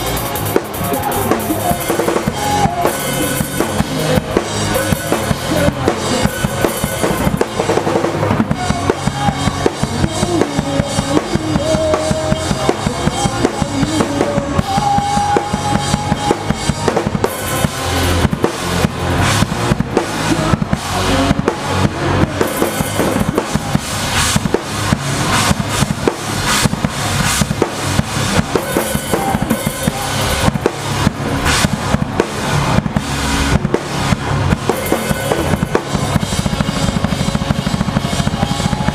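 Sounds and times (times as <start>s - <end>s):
drum kit beat: 0.0s - 38.9s
rock band playing: 0.0s - 38.9s.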